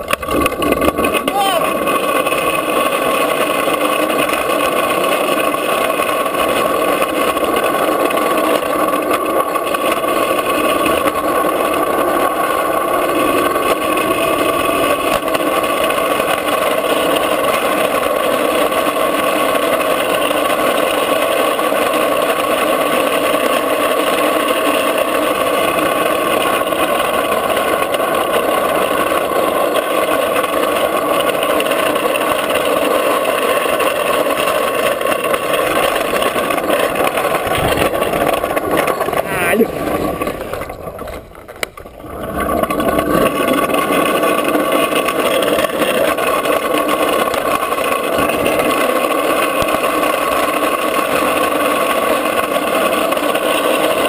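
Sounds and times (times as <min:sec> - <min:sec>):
wheels rolling on asphalt: 0:00.0 - 0:54.0.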